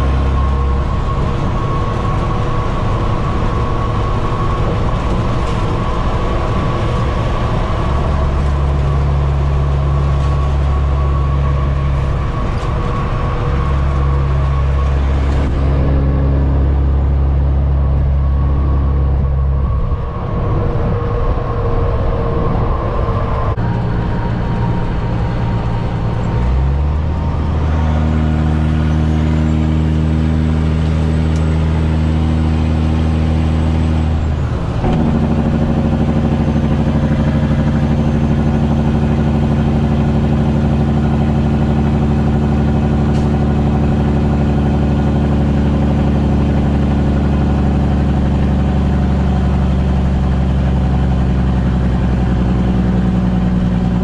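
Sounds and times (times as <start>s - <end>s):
gear shifting: 0.0s - 22.5s, 23.5s - 54.0s
diesel truck engine under load: 0.0s - 54.0s.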